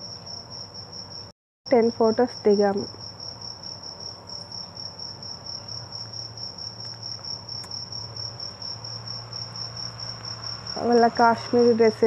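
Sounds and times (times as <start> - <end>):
insect trilling: 1.8 - 12.0.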